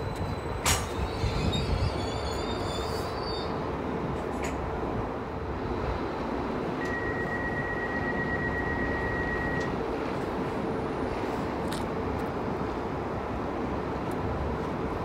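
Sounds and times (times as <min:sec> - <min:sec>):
train diesel engine humming: 0:00.0 - 0:15.0.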